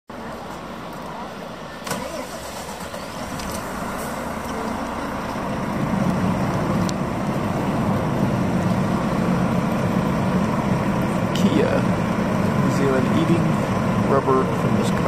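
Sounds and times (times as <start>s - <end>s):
vehicle engine rumble: 0.1s - 15.0s.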